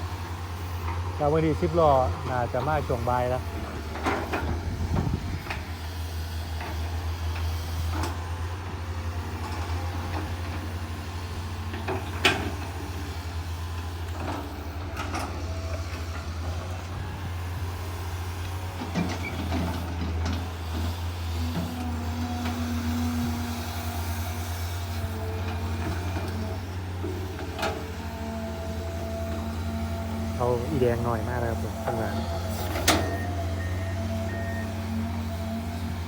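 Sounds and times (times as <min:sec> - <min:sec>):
excavator diesel engines running: 0:00.0 - 0:36.0.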